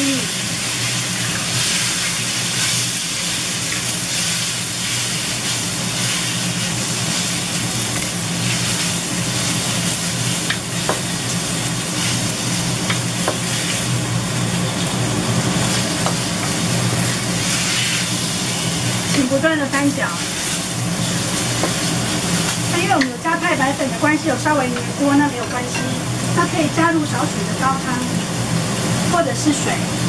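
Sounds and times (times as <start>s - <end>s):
beef sizzling in a wok: 0.0s - 30.0s.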